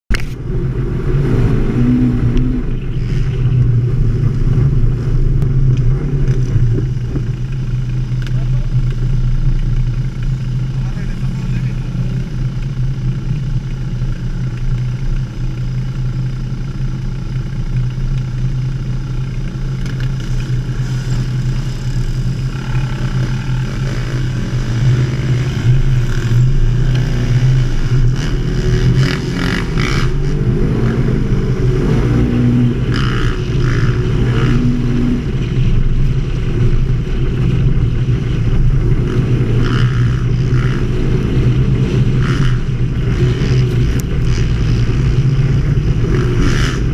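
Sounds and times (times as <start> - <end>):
dirt bike engines revving: 0.1 - 46.9
off-road vehicle engine running: 0.1 - 46.9.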